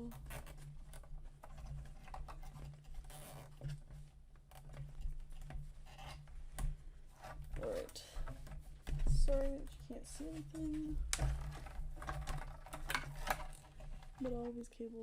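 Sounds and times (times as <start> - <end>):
wiring and plastic clicking: 0.0 - 14.6.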